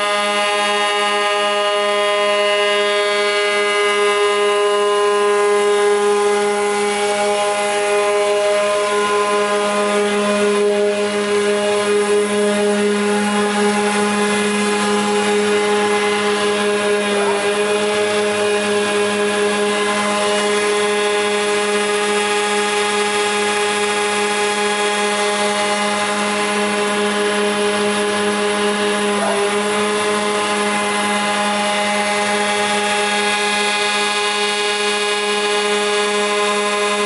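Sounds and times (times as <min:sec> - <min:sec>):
machine motors humming: 0:00.0 - 0:37.0.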